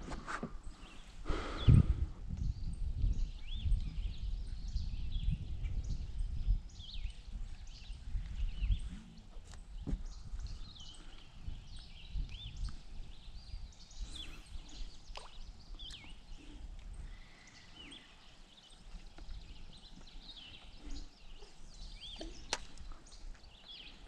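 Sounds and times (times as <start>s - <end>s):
small birds chirping: 0.6s - 24.0s.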